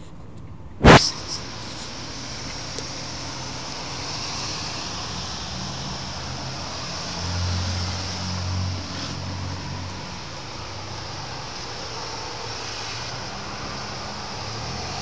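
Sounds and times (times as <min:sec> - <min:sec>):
street traffic noise: 0:00.0 - 0:15.0
vehicle engine hum passing: 0:00.0 - 0:15.0.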